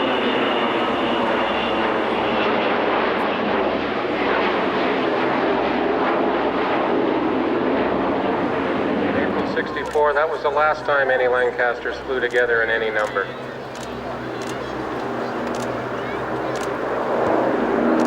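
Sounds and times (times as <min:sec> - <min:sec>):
aircraft engines droning: 0:00.0 - 0:18.0.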